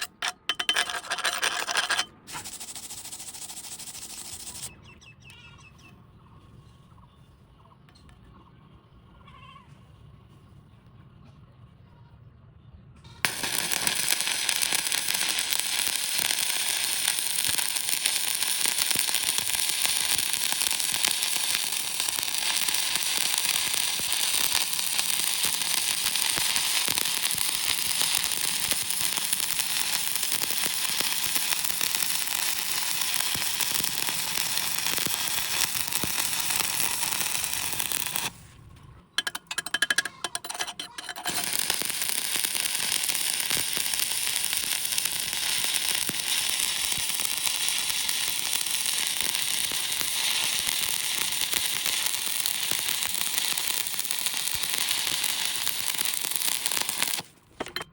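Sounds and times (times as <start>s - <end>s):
welding arc sputters: 0.0s - 4.8s, 13.2s - 38.5s, 39.2s - 57.9s
welding arc crackling: 1.5s - 4.7s, 13.2s - 38.4s, 39.2s - 57.5s.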